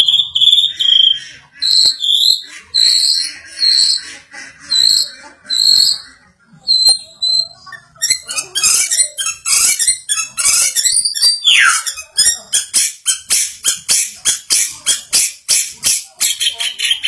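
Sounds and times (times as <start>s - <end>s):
bird sharp repeated notes: 0.0s - 17.0s
bird whistling and chattering: 0.0s - 17.0s.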